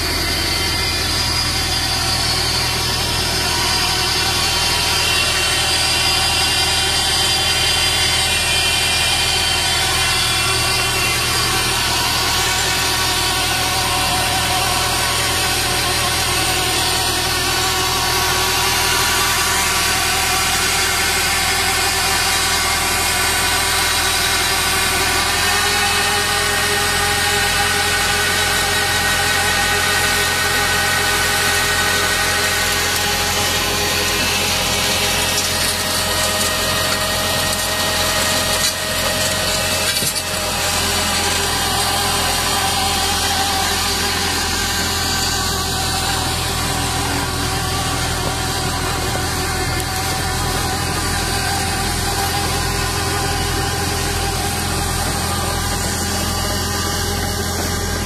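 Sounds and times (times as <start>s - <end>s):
harvester engine droning: 0.0s - 58.0s
machinery rushing and rattling: 0.0s - 58.0s.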